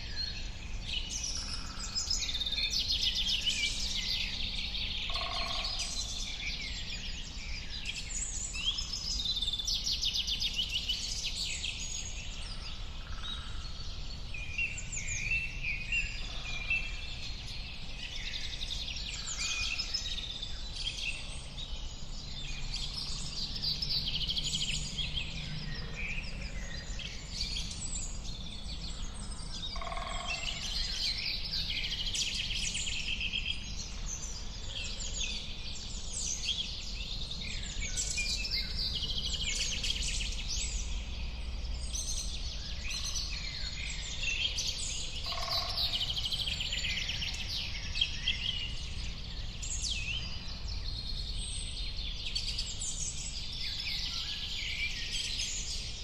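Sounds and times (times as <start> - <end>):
chorus of songbirds: 0.0 - 56.0.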